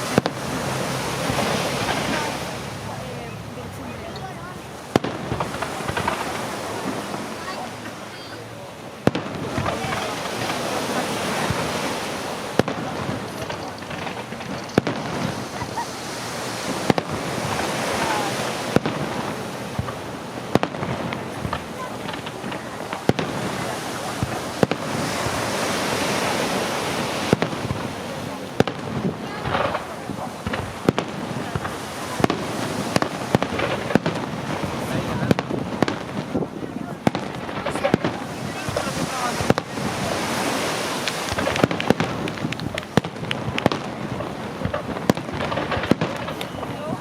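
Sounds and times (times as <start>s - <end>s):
hissing firework noise: 0.0s - 47.0s
firework shell bursts: 4.1s - 8.0s, 9.0s - 46.9s.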